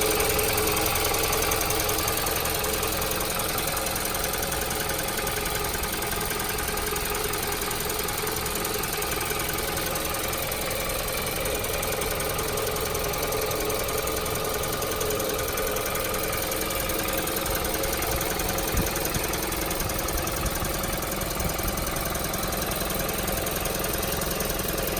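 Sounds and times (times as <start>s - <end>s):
engine idling: 0.0s - 24.9s
fast engine ticking: 0.0s - 24.9s.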